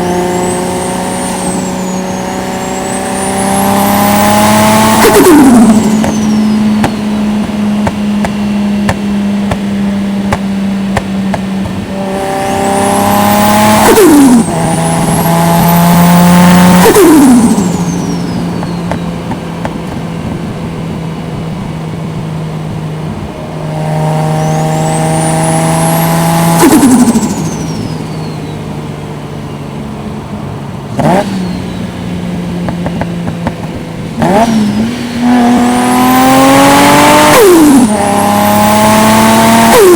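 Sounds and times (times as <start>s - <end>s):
car engine cruising: 0.0s - 39.9s.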